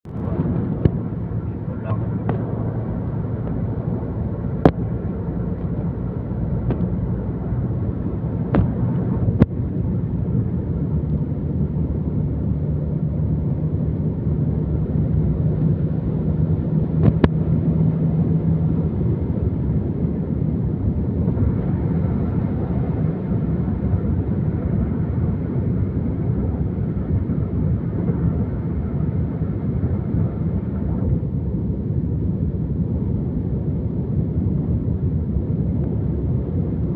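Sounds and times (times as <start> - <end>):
vehicle running rumble: 0.0 - 36.9.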